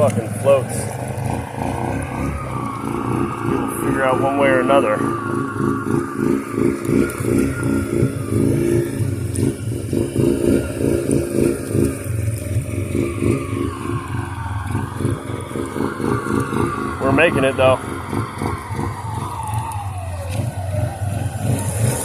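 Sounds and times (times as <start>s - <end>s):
quad bike engine under load: 0.0s - 22.0s
vehicle pushing through water: 0.0s - 22.0s.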